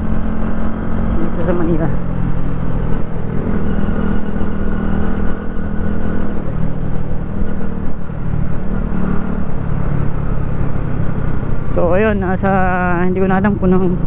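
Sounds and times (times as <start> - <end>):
low wind noise: 0.0 - 14.0
motorcycle engine running: 0.0 - 14.0.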